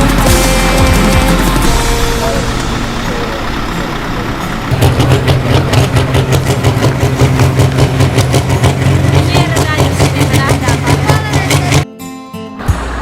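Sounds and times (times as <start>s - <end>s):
heavy truck engine rumbling: 0.0s - 11.9s, 12.6s - 13.0s.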